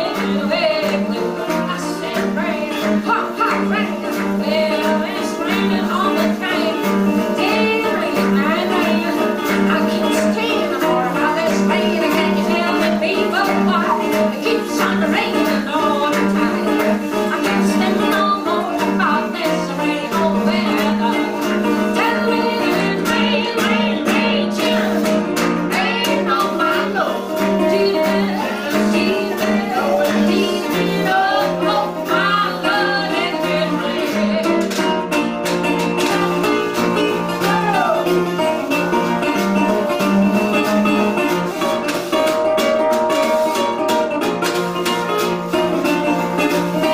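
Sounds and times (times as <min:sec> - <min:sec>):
woman and man singing: 0:00.0 - 0:35.0, 0:36.0 - 0:43.9
resonator guitar playing blues: 0:00.0 - 0:46.9.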